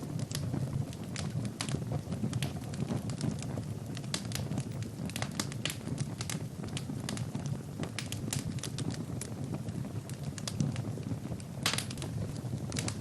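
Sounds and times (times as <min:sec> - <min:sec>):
fire crackling and popping: 0:00.0 - 0:13.0
low rumble of flames: 0:00.0 - 0:13.0.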